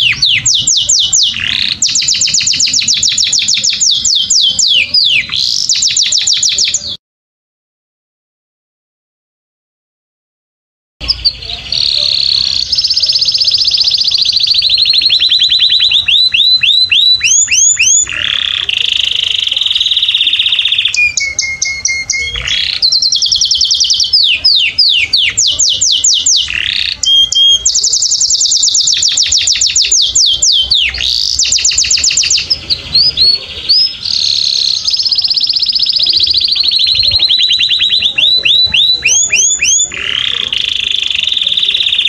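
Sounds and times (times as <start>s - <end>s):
canary singing: 0.0s - 7.0s, 11.0s - 42.0s.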